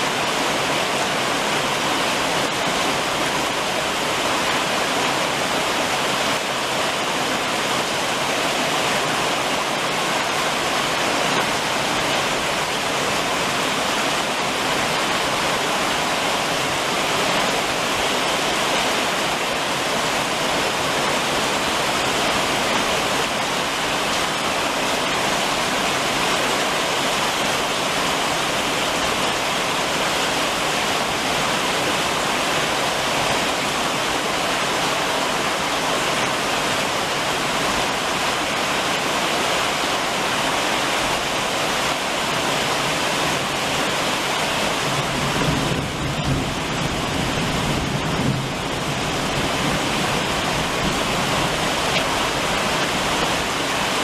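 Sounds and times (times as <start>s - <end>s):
heavy rain drumming on a roof: 0.0s - 54.0s.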